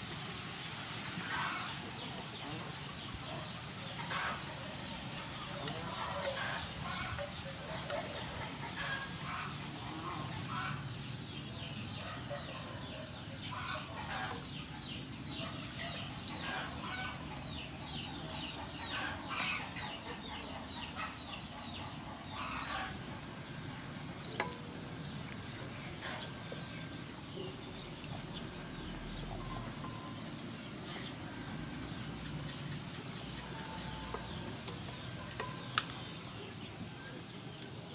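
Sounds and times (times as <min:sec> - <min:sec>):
chickens clucking: 0:01.1 - 0:37.9.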